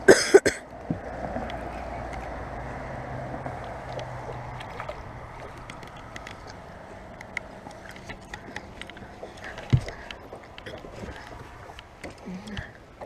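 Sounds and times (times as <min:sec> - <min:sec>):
fishing boat running: 0:00.0 - 0:13.0.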